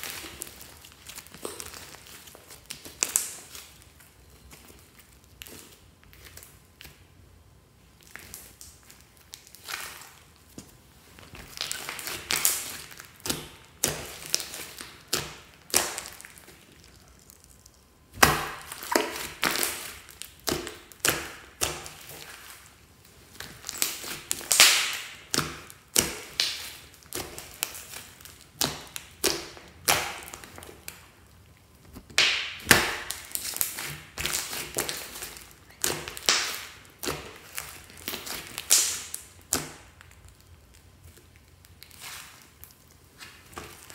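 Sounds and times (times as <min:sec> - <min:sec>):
slime squelching and popping: 0:00.0 - 0:07.1, 0:07.9 - 0:43.9.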